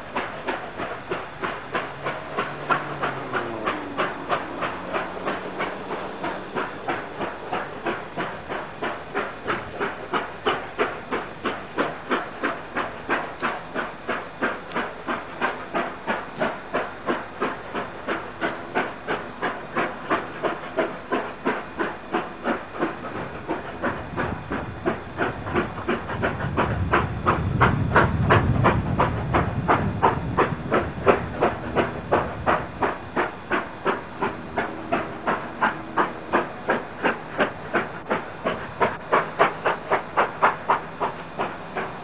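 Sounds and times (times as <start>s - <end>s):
steam locomotive exhaust chuffs: 0.0s - 42.0s.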